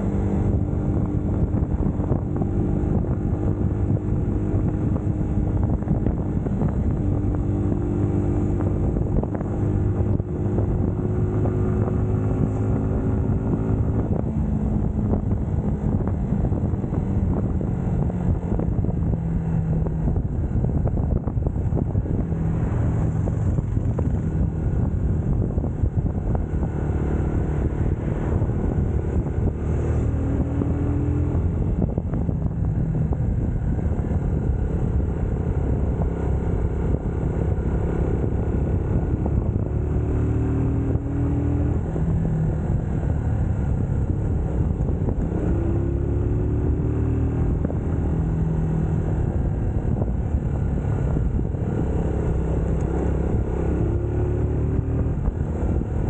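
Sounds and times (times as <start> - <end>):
motorcycle engine revving: 0.0 - 56.0
road and wind noise: 0.0 - 56.0.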